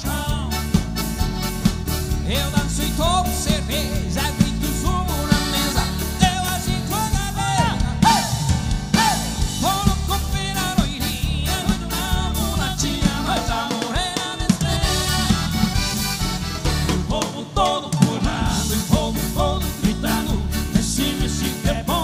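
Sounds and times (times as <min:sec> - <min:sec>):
man singing: 0:00.0 - 0:00.8, 0:02.2 - 0:15.8, 0:16.8 - 0:22.0
bass: 0:00.0 - 0:22.0
keyboard: 0:00.0 - 0:22.0
drum beat: 0:00.3 - 0:22.0.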